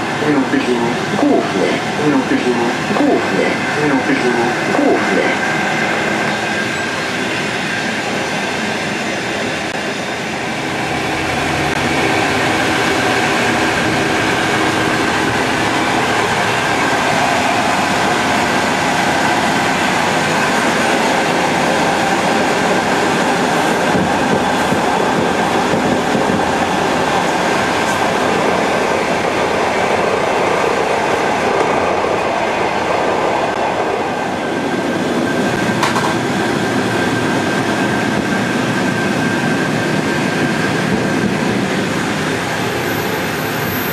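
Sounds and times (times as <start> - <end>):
train wheels rumbling on track: 4.5 - 43.9.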